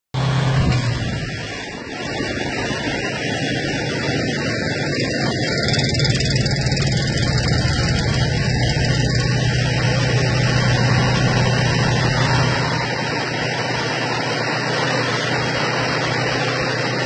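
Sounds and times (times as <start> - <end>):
road and wind noise: 0.2 - 17.0
truck engine drone: 0.2 - 17.0.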